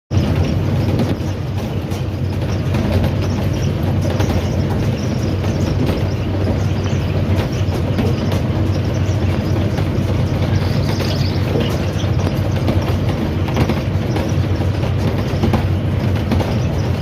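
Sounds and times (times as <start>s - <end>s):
locomotive rumbling: 0.1s - 17.0s
wheels running over rails: 0.1s - 17.0s.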